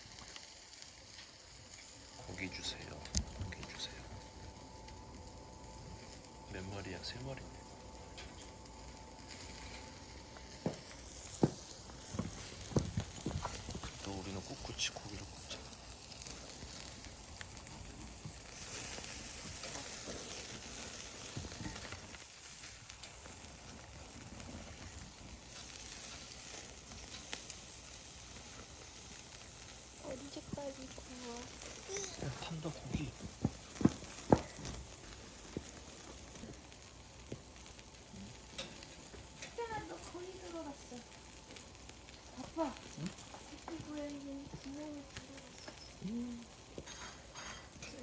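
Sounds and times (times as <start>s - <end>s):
fire crackles: 0.0s - 48.0s
meat sizzling on a grill: 0.0s - 48.0s.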